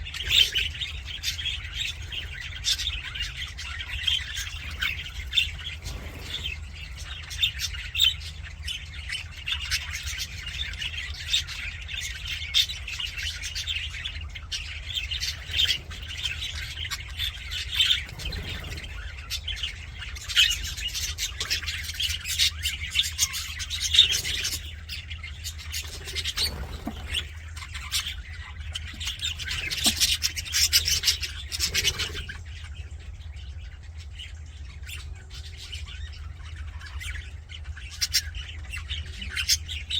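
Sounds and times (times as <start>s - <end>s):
budgerigars chattering: 0.0s - 39.9s
steady low hum: 0.0s - 39.9s.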